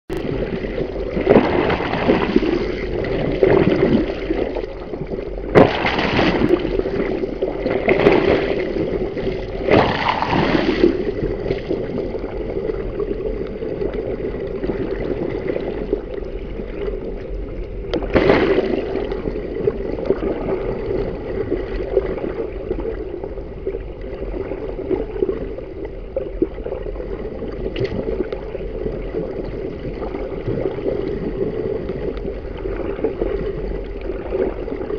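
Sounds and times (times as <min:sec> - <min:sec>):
water rushing underwater: 0:00.1 - 0:34.9.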